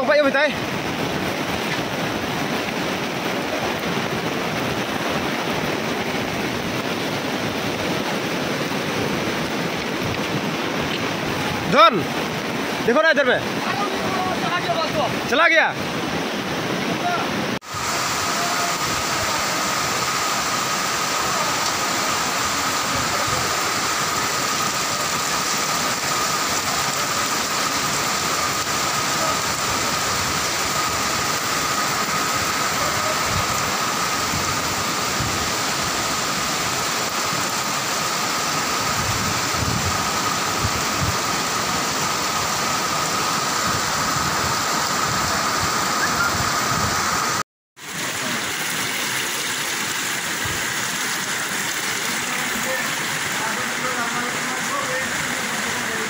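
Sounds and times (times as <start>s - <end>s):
rushing floodwater: 0.0s - 56.0s
torrential rain: 0.0s - 56.0s.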